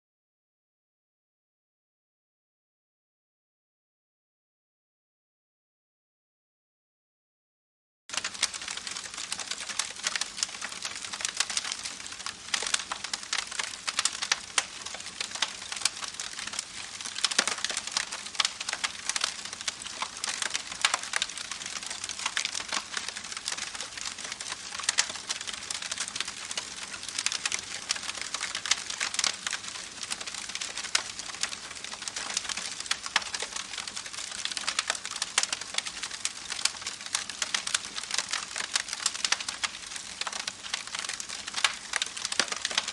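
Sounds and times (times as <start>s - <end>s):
campfire crackling and popping: 8.1s - 42.9s.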